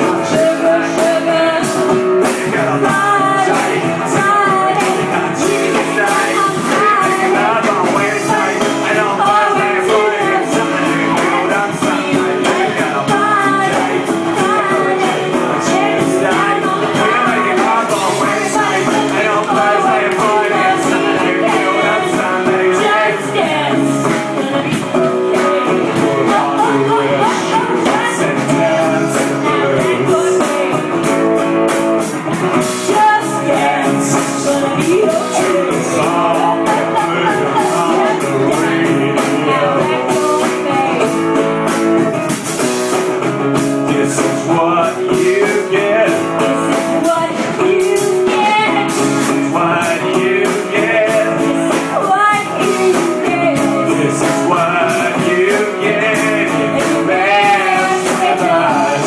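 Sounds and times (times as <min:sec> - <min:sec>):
drums: 0:00.0 - 0:59.0
guitar: 0:00.0 - 0:59.0
person singing: 0:00.0 - 0:59.0.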